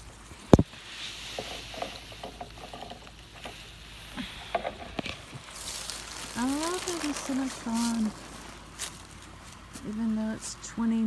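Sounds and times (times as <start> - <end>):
irrigation spray hissing and pattering: 0.0 - 10.4.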